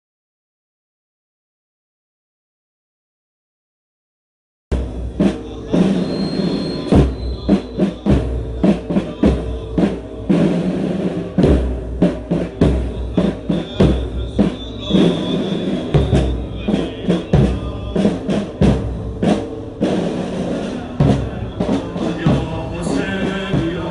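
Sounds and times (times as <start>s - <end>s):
drums beating: 4.7s - 23.9s
crowd voices: 4.8s - 23.9s.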